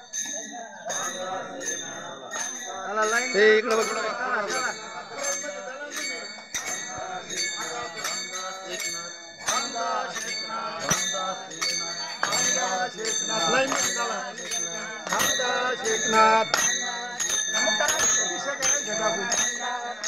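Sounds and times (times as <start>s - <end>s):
group singing devotional song: 0.8s - 20.0s.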